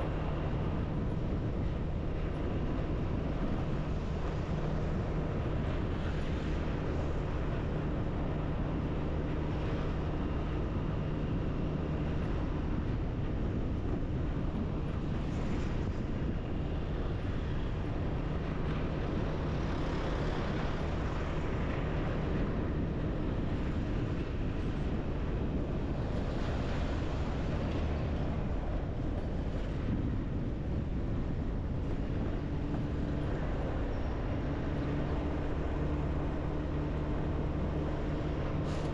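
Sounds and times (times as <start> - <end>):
road noise: 0.0 - 38.9
wind noise: 0.0 - 38.9.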